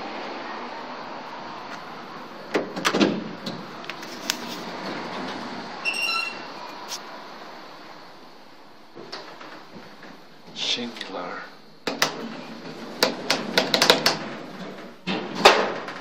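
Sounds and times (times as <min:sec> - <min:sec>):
elevator doors sliding open: 0:00.0 - 0:11.0, 0:11.9 - 0:16.0.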